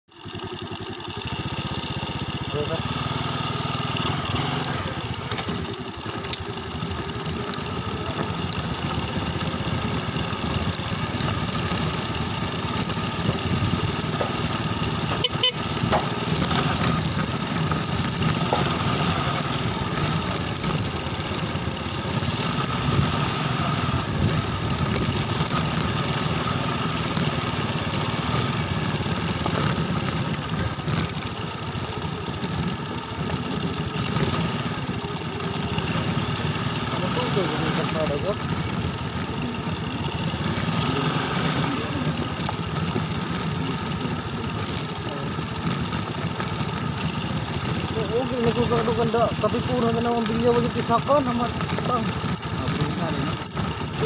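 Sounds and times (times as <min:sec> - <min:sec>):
motorcycle engine running: 0:00.1 - 0:54.0.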